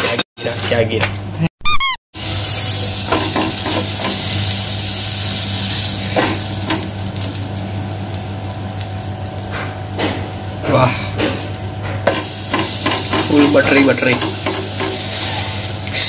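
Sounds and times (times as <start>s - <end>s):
butter sizzling on a hot pan: 2.2s - 10.8s, 11.4s - 16.0s.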